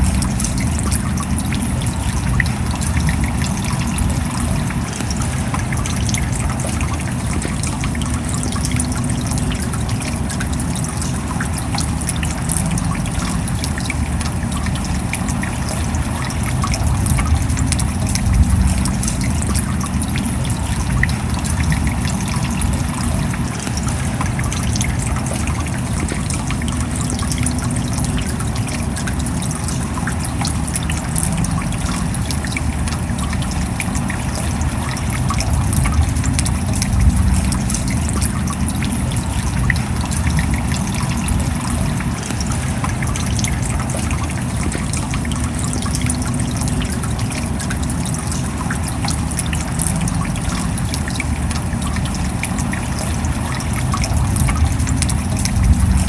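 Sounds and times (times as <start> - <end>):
low even rumble: 0.0 - 28.6, 30.8 - 47.2, 49.3 - 56.0
steady rain: 0.0 - 56.0
water trickling: 0.0 - 56.0.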